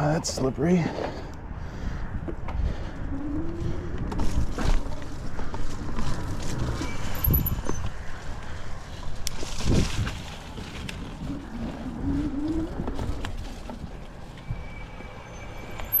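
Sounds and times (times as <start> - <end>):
low rumble of wind: 0.0 - 16.0.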